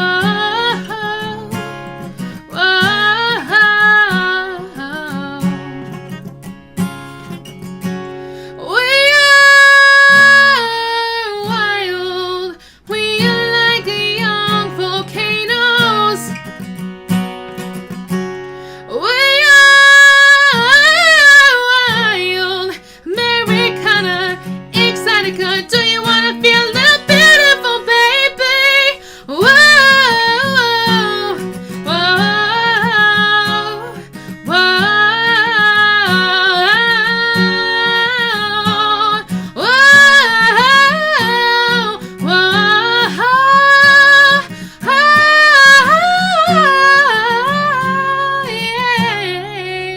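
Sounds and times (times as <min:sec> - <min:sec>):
woman singing: 0:00.0 - 0:06.2, 0:08.5 - 0:16.6, 0:18.8 - 0:49.9
acoustic guitar: 0:00.0 - 0:49.9.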